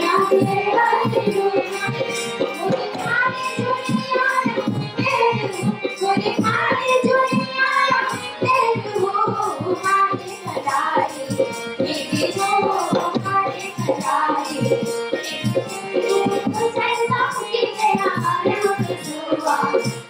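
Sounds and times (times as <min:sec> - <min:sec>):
steady drumbeat: 0:00.0 - 0:20.0
voices singing folk song: 0:00.0 - 0:20.0.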